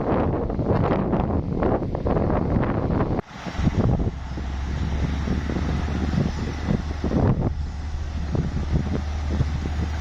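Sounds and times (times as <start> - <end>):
bulldozer diesel engine running: 0.0 - 10.0
wind buffeting microphone: 0.0 - 10.0.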